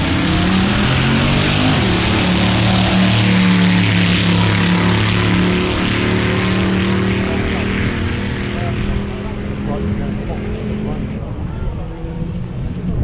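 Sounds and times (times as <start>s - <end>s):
loud engine running: 0.0s - 13.0s.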